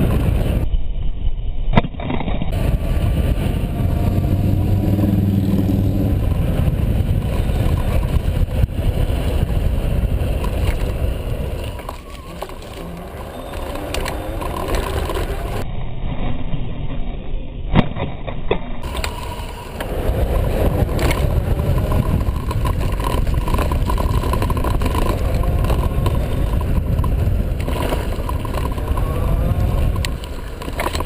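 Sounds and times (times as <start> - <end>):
vehicle engine hum: 2.5 - 15.6, 18.8 - 31.0
vehicles passing: 2.5 - 15.6, 18.8 - 31.0.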